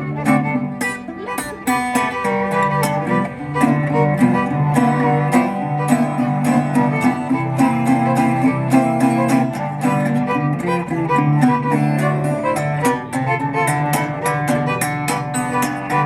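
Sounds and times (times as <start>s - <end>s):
fiddle playing melody: 0.0s - 16.0s
plucked guitar strokes: 0.0s - 16.0s.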